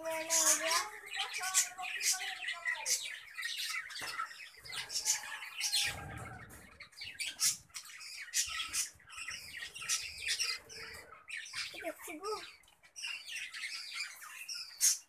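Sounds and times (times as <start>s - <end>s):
budgerigars squawking: 0.1s - 12.4s, 13.0s - 15.0s.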